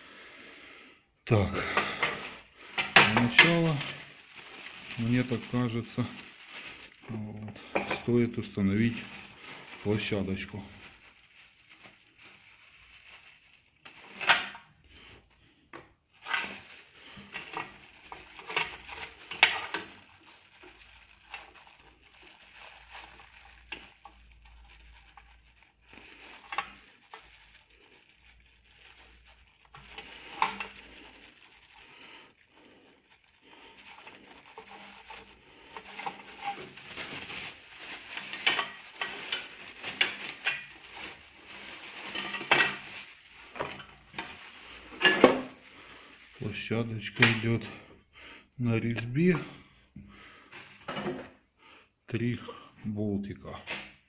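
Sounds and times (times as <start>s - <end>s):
plastic packaging crinkling: 1.6s - 47.6s, 49.2s - 51.4s.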